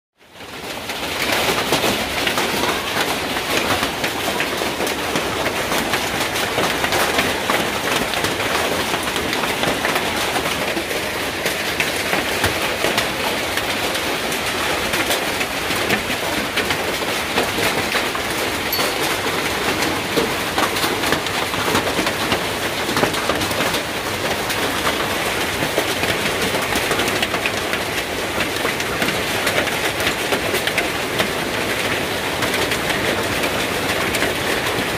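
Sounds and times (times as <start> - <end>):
hailstones striking: 0.7 - 34.8.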